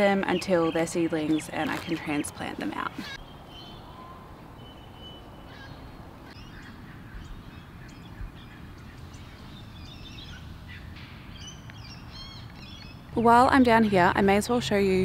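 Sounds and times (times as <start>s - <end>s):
small birds chirping: 0.0s - 14.7s.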